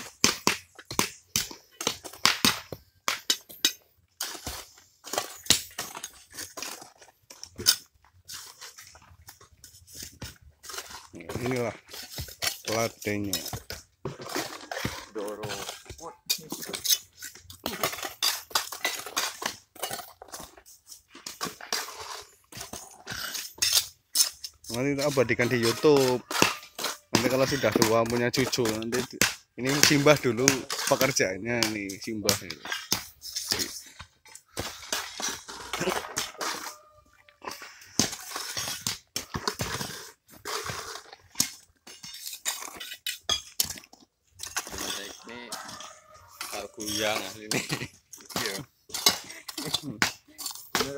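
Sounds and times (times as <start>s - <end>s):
tools clinking against rocks: 0.0s - 50.9s
bucket scraping wet gravel mix: 4.2s - 50.9s.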